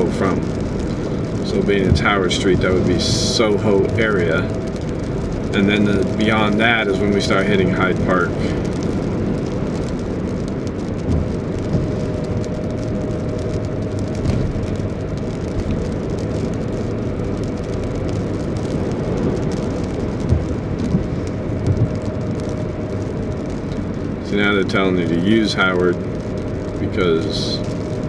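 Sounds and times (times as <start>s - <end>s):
small bumps: 0.0s - 24.8s
car road and engine noise: 0.0s - 28.0s.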